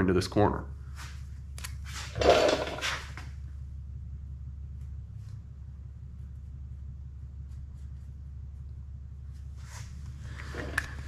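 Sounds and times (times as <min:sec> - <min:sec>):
low workshop hum: 0:00.0 - 0:11.0.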